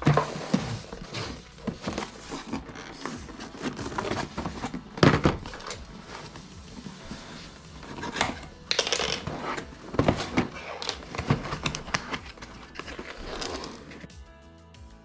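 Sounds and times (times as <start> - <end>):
objects being handled: 0.0 - 14.1.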